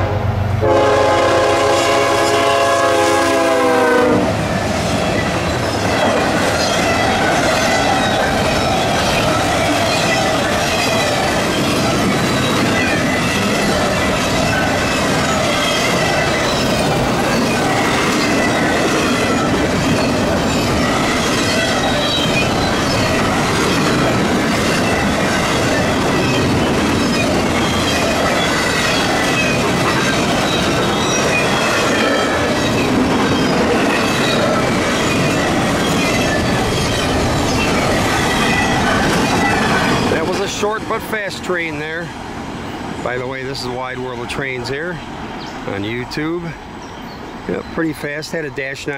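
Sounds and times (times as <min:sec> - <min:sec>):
train wheels clacking on rails: 0:01.5 - 0:48.2.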